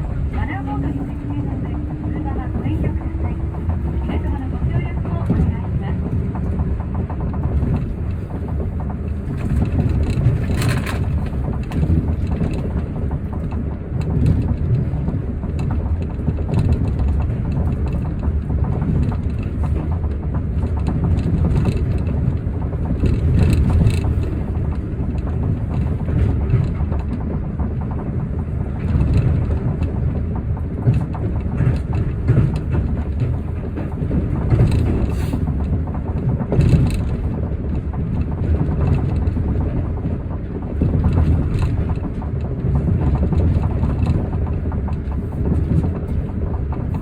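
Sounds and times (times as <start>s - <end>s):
clicks and rattles: 0.0s - 47.0s
tram rumbling along guideway: 0.0s - 47.0s.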